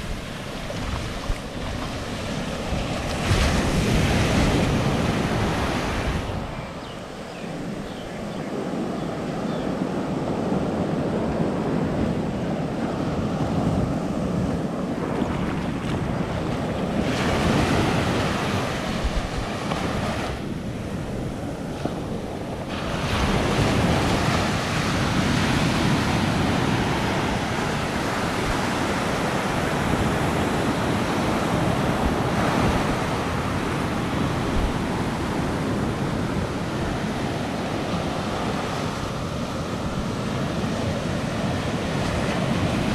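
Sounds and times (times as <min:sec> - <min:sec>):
waves washing up a beach: 0:00.0 - 0:42.9.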